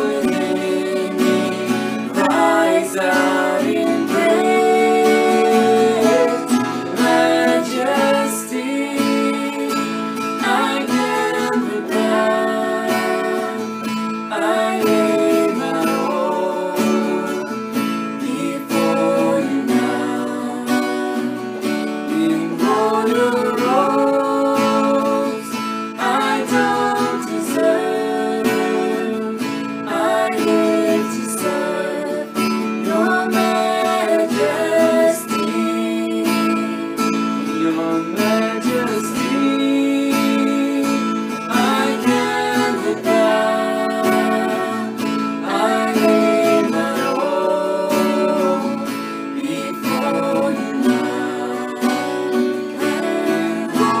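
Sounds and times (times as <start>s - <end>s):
man and woman singing: 0.0s - 54.0s
strummed acoustic guitar: 0.0s - 54.0s.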